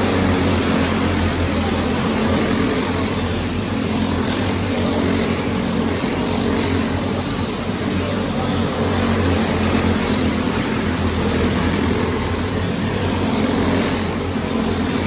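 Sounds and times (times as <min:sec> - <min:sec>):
go-kart engines passing: 0:00.0 - 0:15.0.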